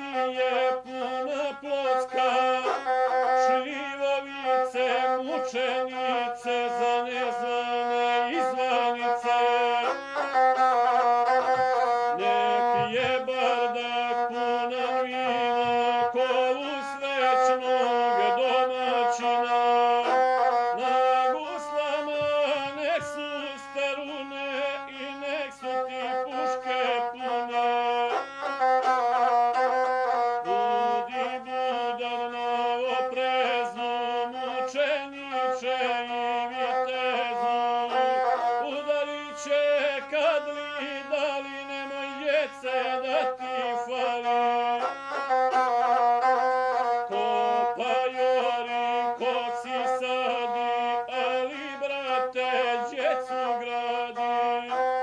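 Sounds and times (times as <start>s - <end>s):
bowed one-string fiddle melody: 0.0s - 55.0s.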